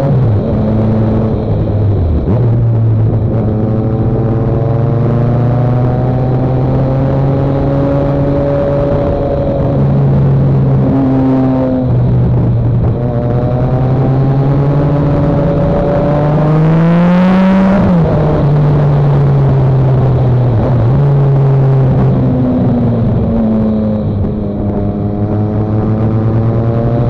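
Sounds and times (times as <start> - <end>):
motorcycle engine running: 0.0 - 27.0
wind rush: 0.0 - 27.0.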